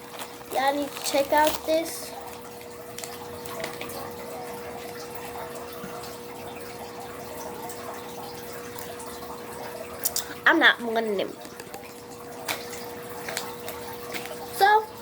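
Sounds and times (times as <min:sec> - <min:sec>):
running tap noise: 0:00.0 - 0:15.0.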